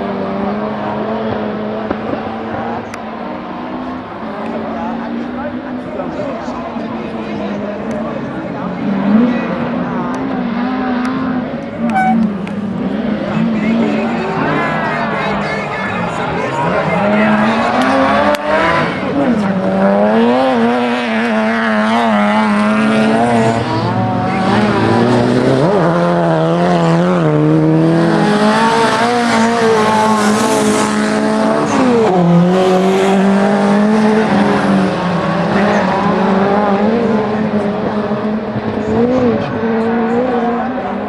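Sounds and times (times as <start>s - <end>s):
car engines revving hard: 0.0s - 41.0s.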